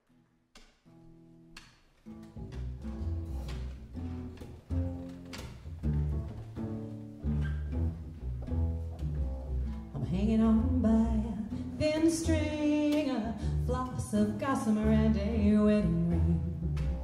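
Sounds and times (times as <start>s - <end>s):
plucked notes: 0.5s - 17.0s
band playing low strings: 2.0s - 17.0s
deep bass line: 2.4s - 17.0s.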